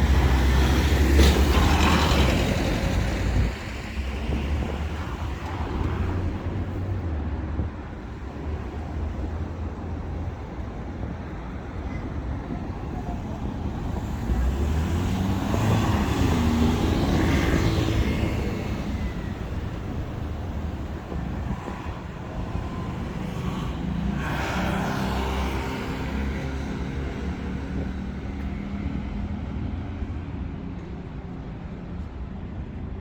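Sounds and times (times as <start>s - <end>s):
street traffic: 0.0s - 33.0s.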